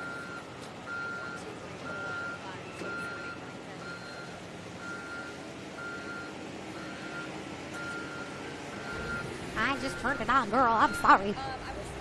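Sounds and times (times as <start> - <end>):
reversing alarm beeping: 0.0 - 11.4
low steady rumble: 0.0 - 12.0.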